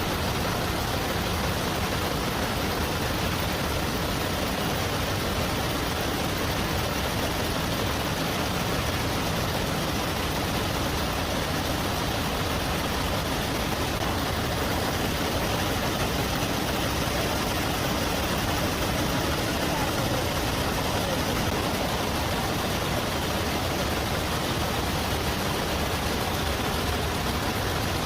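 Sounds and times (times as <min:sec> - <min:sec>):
nail-making machinery running: 0:00.0 - 0:28.0.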